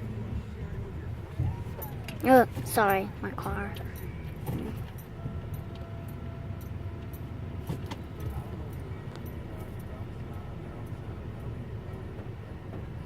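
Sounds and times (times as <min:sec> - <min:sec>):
car wash machinery rumble: 0:00.0 - 0:13.0.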